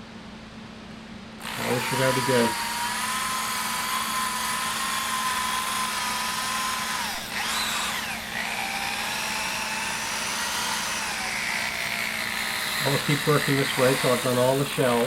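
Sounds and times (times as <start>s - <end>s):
electric drill buffing wheel whine: 1.4s - 15.0s.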